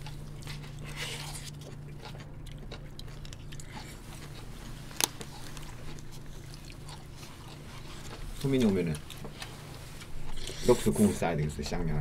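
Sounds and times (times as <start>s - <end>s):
chewing food: 0.0s - 11.8s.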